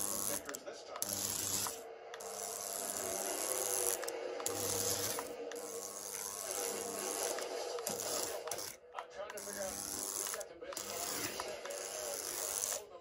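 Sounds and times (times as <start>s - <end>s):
small electric motor whirring: 0.0s - 8.8s, 9.4s - 12.9s.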